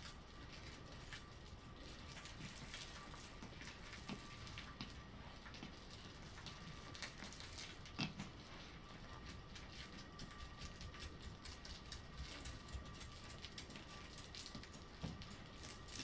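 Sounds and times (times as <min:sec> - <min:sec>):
dog paws scuffling on a mat: 0:00.0 - 0:16.0.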